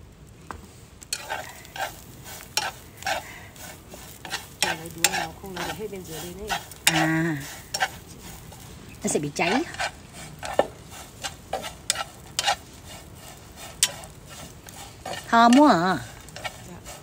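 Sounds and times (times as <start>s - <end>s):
metal tongs scraping a frying pan: 1.1s - 17.0s.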